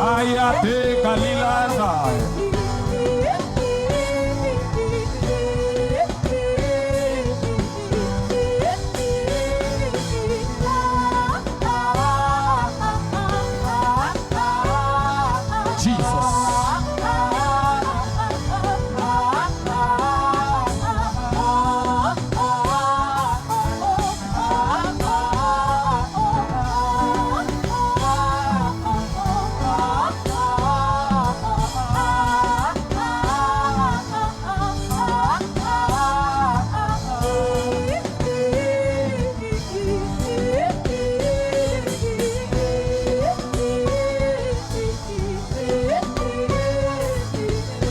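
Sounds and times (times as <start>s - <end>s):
instrumental backing music: 0.0s - 47.9s
person singing a worship chant: 0.0s - 47.9s.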